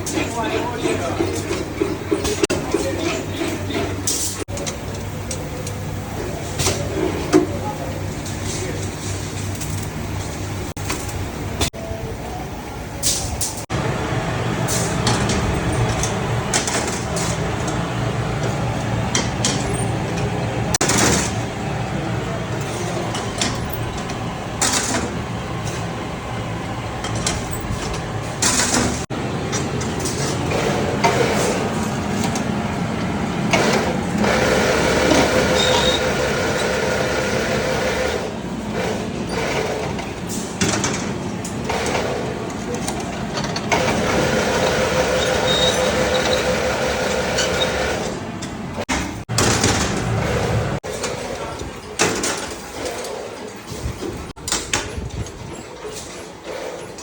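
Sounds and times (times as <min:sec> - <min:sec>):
factory machinery humming: 0:00.0 - 0:54.5.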